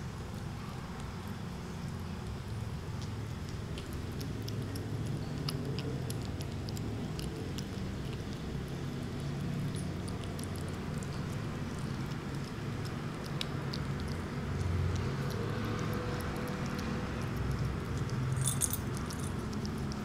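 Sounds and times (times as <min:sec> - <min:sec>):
kittens chewing and lapping: 0:00.0 - 0:20.0.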